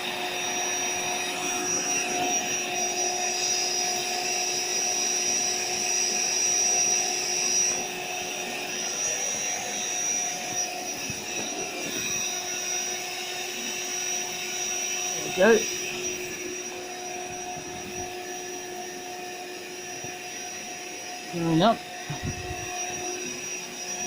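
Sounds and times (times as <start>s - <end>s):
electric air pump humming: 0.0s - 24.0s.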